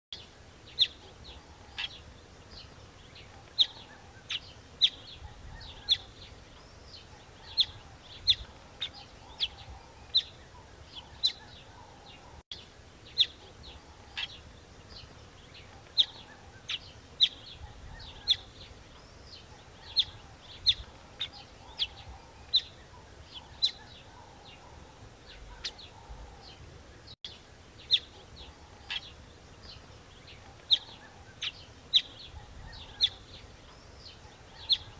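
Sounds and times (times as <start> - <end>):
bird chirping: 0.2 - 34.9
faint background hiss: 0.2 - 34.9.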